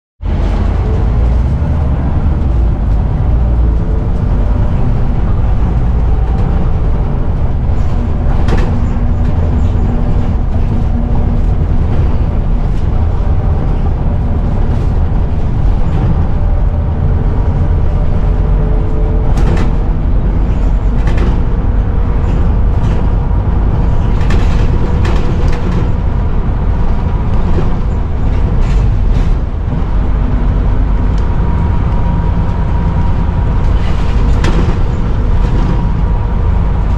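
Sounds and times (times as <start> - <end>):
bus driveline and road rumble: 0.2 - 36.9.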